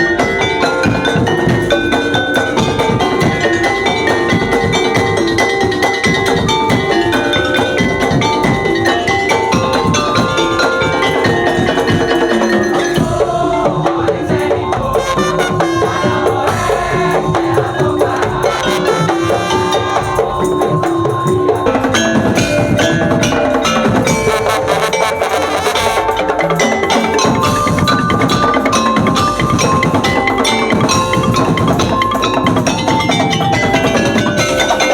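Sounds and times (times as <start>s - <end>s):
wood blocks: 0.0s - 13.4s, 14.9s - 34.9s
tuned mallet percussion: 0.0s - 34.9s.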